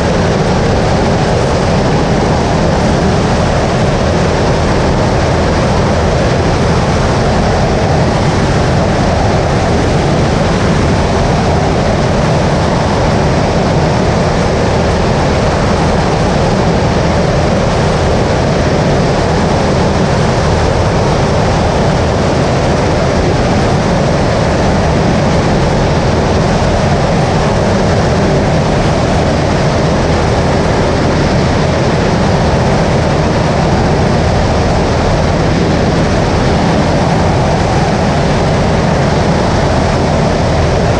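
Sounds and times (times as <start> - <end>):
light aircraft engine drone: 0.0 - 40.9
wind rush: 0.0 - 40.9.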